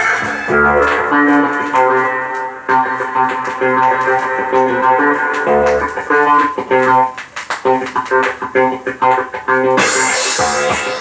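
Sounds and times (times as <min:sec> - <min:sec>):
pop music with guitar and bass: 0:00.0 - 0:11.0.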